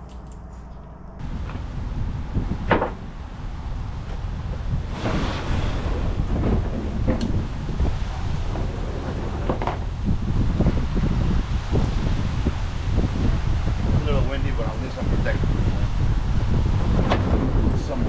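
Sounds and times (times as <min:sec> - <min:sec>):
wind buffeting microphone: 0:01.2 - 0:18.0.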